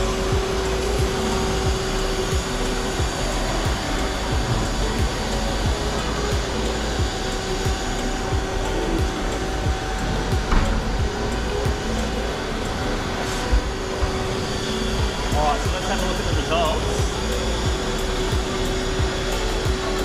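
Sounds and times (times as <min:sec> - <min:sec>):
vacuum cleaner on carpet: 0:00.0 - 0:20.0.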